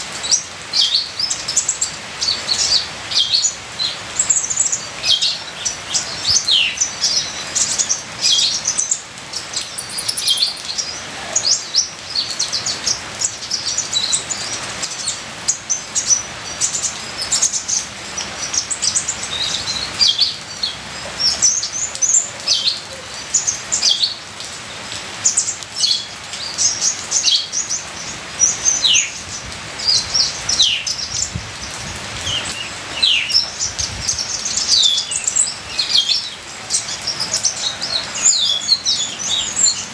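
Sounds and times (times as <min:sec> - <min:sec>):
trickling rain water hiss: 0:00.0 - 0:39.9
sunbird singing high chirps: 0:00.2 - 0:24.2, 0:25.3 - 0:39.9.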